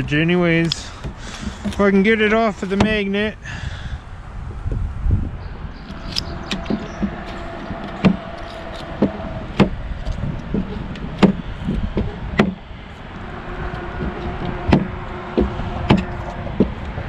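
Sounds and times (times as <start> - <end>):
low handling rumble: 0.0 - 17.0.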